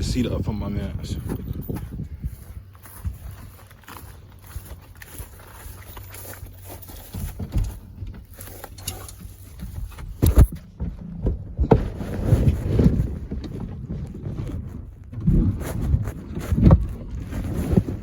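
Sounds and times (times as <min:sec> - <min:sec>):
truck seat knocks and rattles: 0:00.0 - 0:18.0
wind buffeting microphone: 0:00.0 - 0:18.0.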